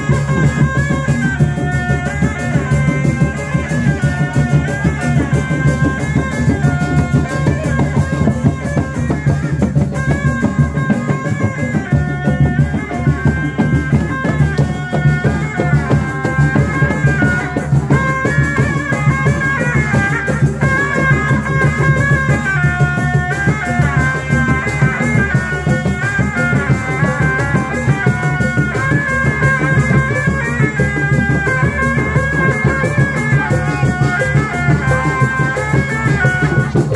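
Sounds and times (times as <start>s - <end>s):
high melody line: 0.0s - 36.9s
steady drumming: 0.0s - 36.9s.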